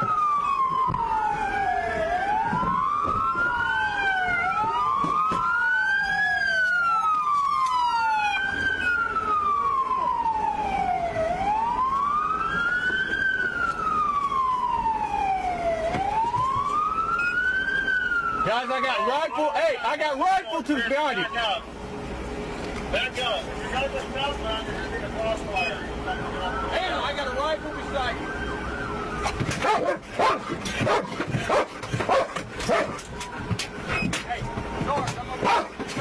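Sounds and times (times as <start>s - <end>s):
police sirens wailing: 0.0s - 36.0s.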